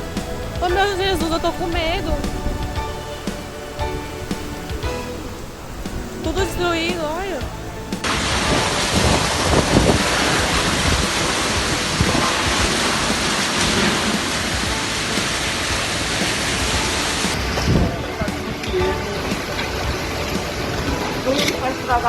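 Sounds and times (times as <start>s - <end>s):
heavy rain: 0.0s - 22.0s
low thuds: 0.0s - 22.0s.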